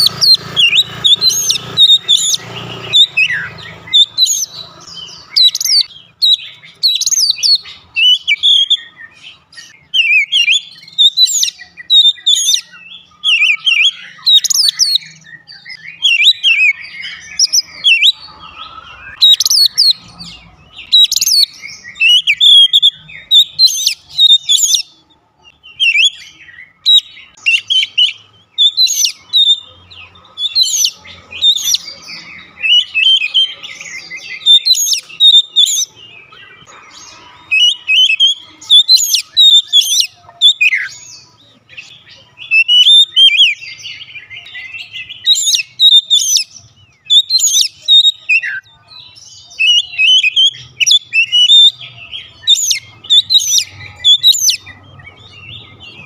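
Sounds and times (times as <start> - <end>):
bird singing whistled phrases: 0.0 - 20.0, 20.8 - 24.9, 25.6 - 29.7, 30.4 - 35.9, 37.5 - 55.9.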